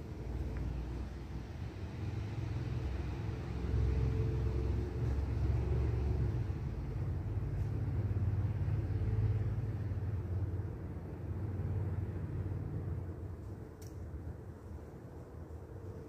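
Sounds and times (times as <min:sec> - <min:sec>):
steady low rumble: 0:00.0 - 0:03.7, 0:04.4 - 0:16.0.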